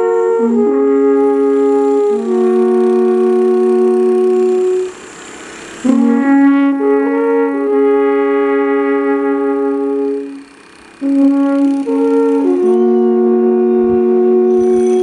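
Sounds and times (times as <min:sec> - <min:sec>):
alphorns playing slow melody: 0:00.0 - 0:15.0.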